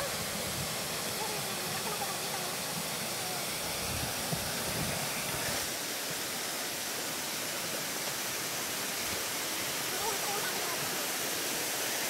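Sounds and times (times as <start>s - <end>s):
falling water roar: 0.0s - 12.0s.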